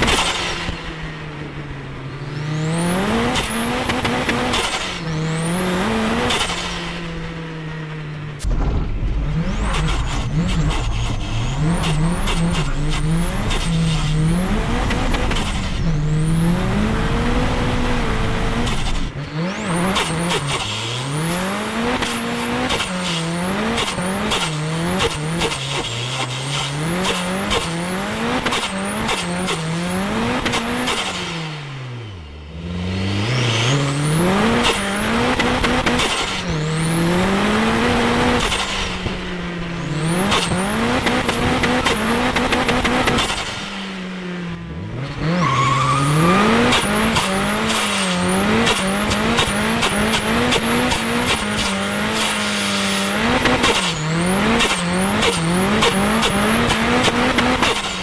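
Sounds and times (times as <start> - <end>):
car engine accelerating: 0.0 - 58.0
high turbo whine: 0.0 - 58.0.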